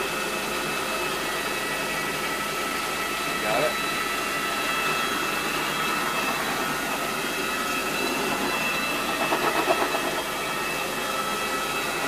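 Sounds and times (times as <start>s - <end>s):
carpet extraction vacuum whining: 0.0s - 12.0s.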